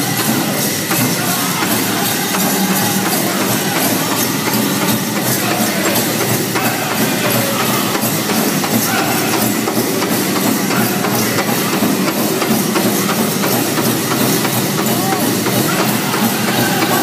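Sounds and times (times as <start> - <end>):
bells and jingles clattering: 0.0 - 17.0
group singing: 0.0 - 17.0
steady drumbeat: 0.0 - 17.0.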